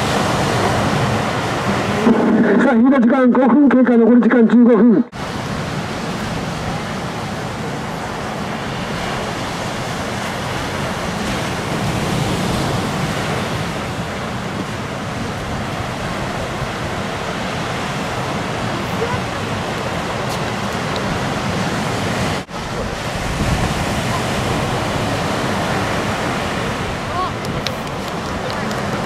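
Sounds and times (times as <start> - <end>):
ocean surf breaking: 0.0 - 4.0, 5.1 - 29.0.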